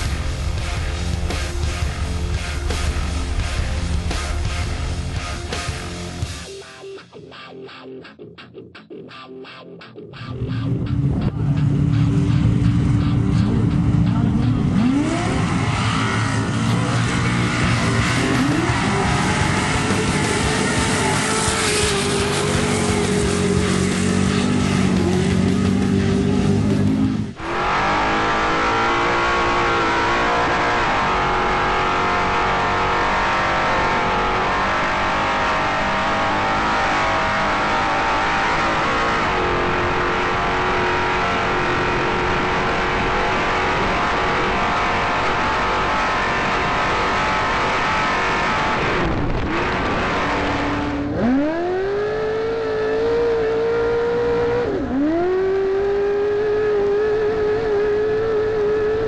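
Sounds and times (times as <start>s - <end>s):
race vehicle engine revving: 10.4s - 59.0s.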